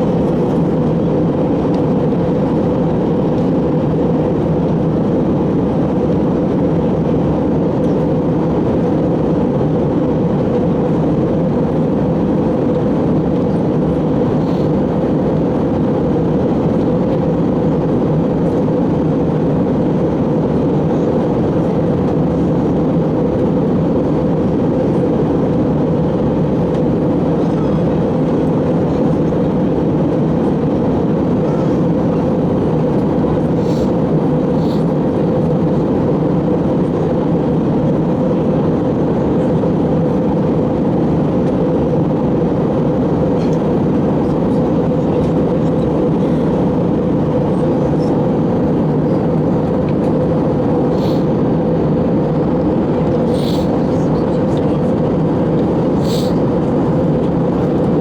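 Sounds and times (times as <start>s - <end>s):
airplane cabin engine hum: 0.0s - 58.0s.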